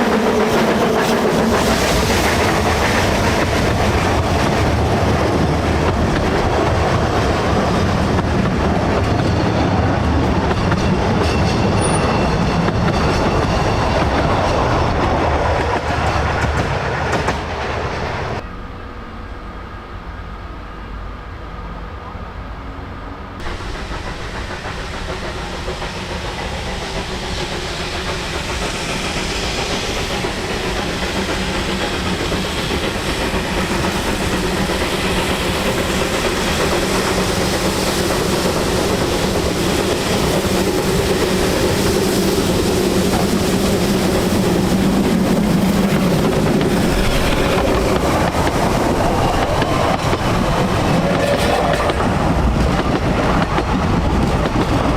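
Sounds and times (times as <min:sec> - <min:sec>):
steam train running: 0:00.0 - 0:54.9.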